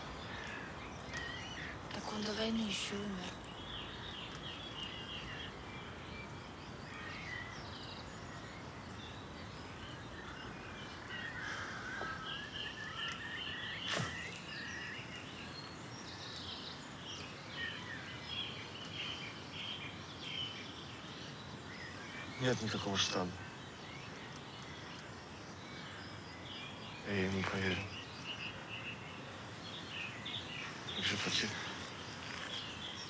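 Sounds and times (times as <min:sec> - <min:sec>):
small birds chirping: 0:00.0 - 0:33.0
steady hiss: 0:00.0 - 0:33.0.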